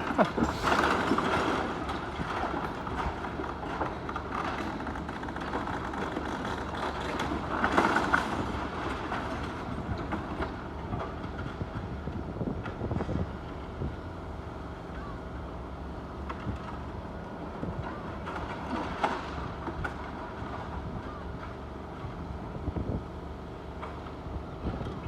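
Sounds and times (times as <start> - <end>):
demolition machinery running: 0.0 - 25.0.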